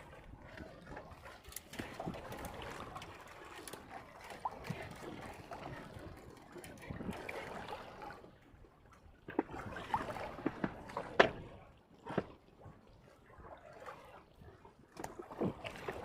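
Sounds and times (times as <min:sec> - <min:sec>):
water lapping against boat hull: 0:00.0 - 0:16.0.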